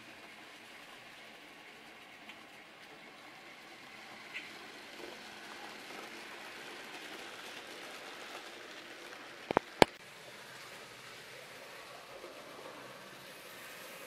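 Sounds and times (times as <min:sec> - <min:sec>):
model train wheels and motor hiss: 0:00.0 - 0:14.0.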